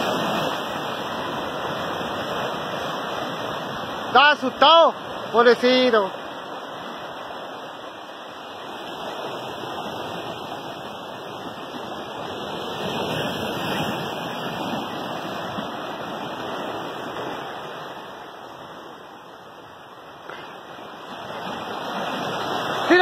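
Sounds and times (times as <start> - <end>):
surf breaking over rocks: 0.0 - 23.0.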